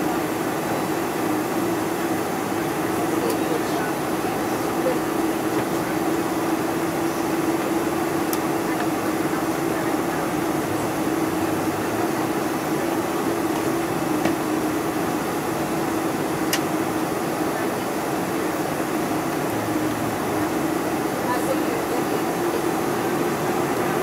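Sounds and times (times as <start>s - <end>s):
jet engines humming in cabin: 0.0s - 24.0s.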